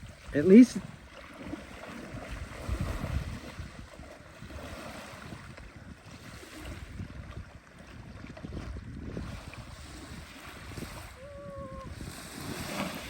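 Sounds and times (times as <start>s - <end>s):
water and small waves: 0.0s - 13.0s
wind buffeting microphone: 0.0s - 13.0s.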